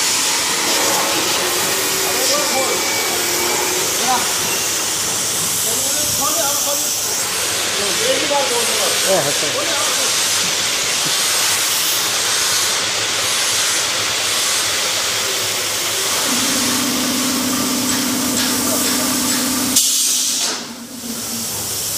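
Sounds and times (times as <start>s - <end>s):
compressed air hissing: 0.0s - 21.9s.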